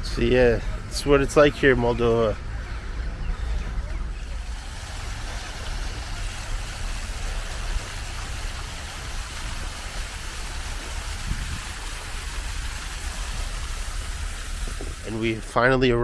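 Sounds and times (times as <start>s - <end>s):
street traffic noise: 0.0s - 15.5s.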